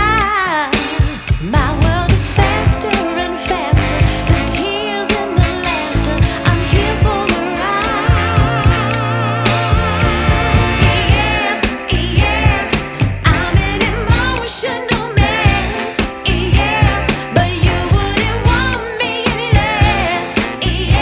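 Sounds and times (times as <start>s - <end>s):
person singing with vibrato: 0.0s - 21.0s
pop music with steady beat: 0.0s - 21.0s.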